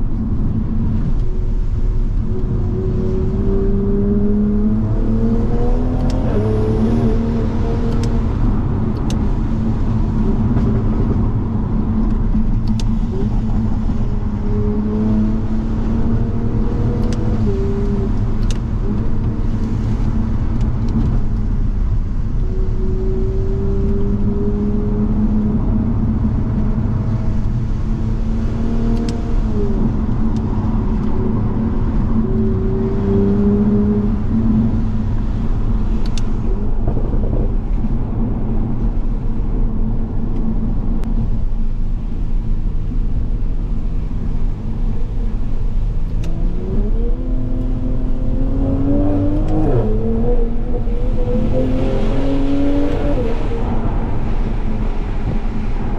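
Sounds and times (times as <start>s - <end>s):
car engine pulling through gears: 0.0s - 55.9s
low road drone: 0.0s - 55.9s.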